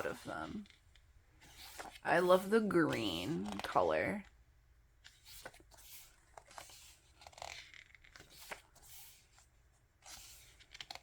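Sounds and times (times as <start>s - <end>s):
book pages turning: 0.0s - 11.0s.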